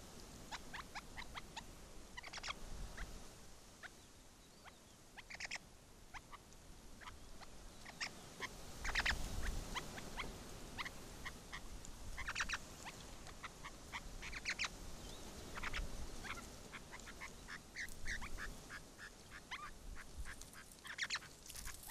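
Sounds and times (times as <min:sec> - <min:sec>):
partridges chirping and clucking: 0:00.5 - 0:03.1, 0:04.6 - 0:21.9.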